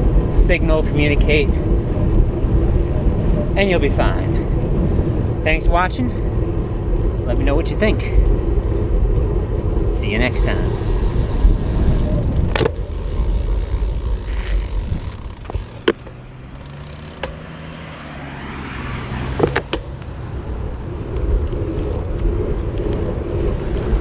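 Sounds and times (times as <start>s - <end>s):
vehicle engine hum: 0.0s - 24.0s
wind rumbling on microphone: 0.0s - 24.0s.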